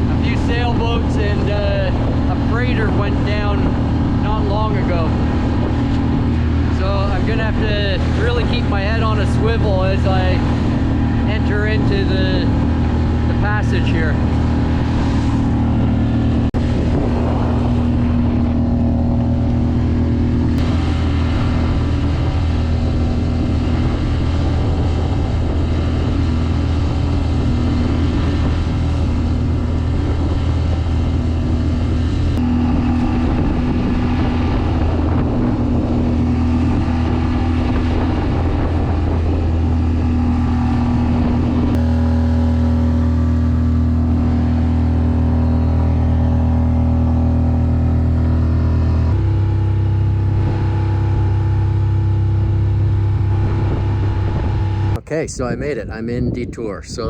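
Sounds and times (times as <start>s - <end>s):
outboard motor droning: 0.0s - 56.3s.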